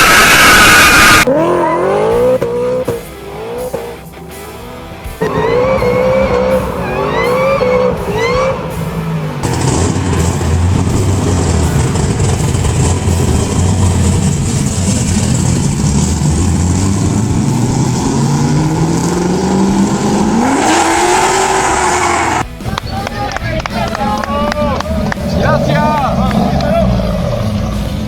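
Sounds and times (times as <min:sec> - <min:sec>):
car engine revving high: 0:00.0 - 0:22.4, 0:24.5 - 0:28.0
spinning tyres hissing: 0:00.0 - 0:22.5.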